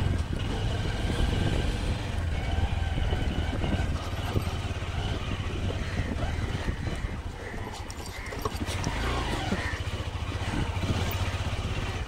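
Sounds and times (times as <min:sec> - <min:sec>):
low rumble of ride noise: 0:00.0 - 0:12.0
motorcycle engine running: 0:00.0 - 0:12.0.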